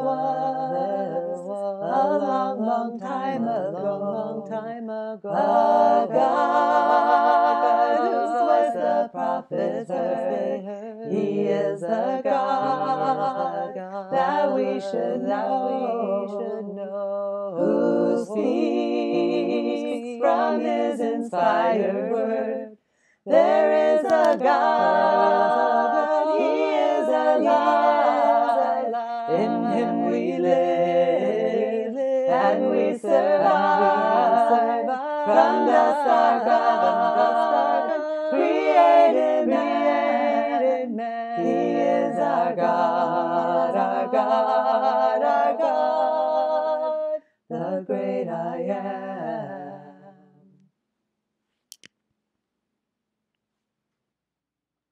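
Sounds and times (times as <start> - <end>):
woman singing hymn in harmony: 0.0 - 50.2.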